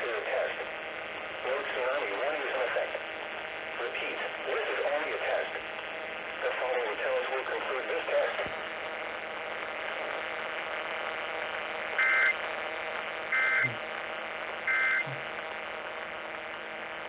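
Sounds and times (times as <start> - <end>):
radio static and hum: 0.0 - 17.0.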